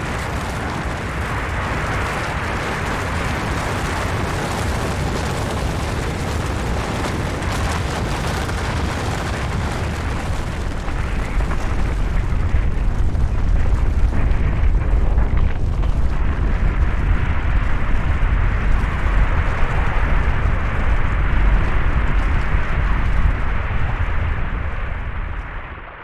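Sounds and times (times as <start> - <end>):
avalanche rumble: 0.0 - 26.0.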